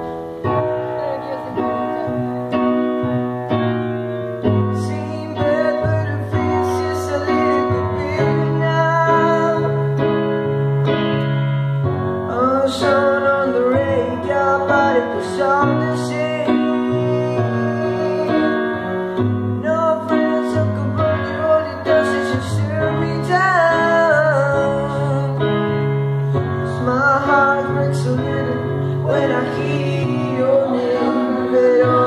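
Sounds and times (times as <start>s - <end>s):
piano chords: 0.0s - 32.0s
person singing into a microphone: 0.3s - 3.4s, 4.5s - 10.0s, 12.2s - 32.0s.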